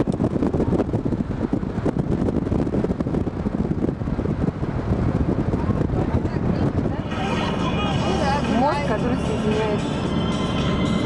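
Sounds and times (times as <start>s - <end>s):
car road and engine noise: 0.0s - 11.0s
wind buffeting microphone: 0.0s - 11.0s.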